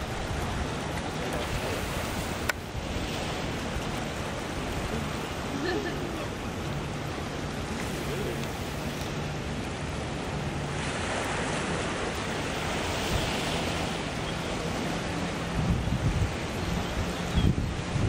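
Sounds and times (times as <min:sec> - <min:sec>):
sea surf washing against rocks: 0:00.0 - 0:18.0
wind buffeting microphone: 0:00.0 - 0:18.0.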